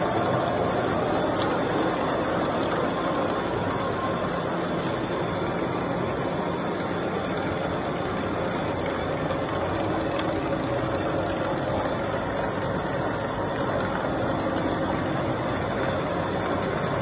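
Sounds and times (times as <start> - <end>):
machine shop machinery hum: 0.0 - 17.0.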